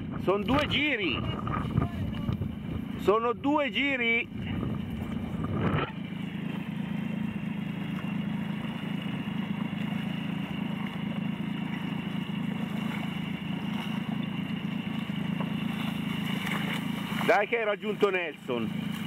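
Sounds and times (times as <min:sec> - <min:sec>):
high whine: 0:00.0 - 0:19.0
motorboat engine running: 0:00.0 - 0:19.0.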